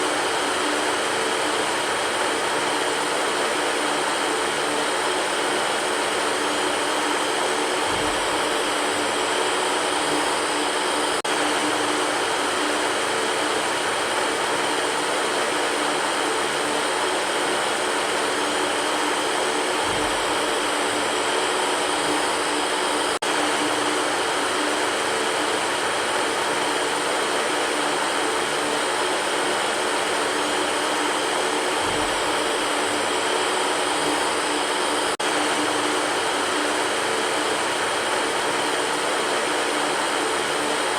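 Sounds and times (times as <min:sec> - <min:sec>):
electric fan whooshing: 0:00.0 - 0:40.9.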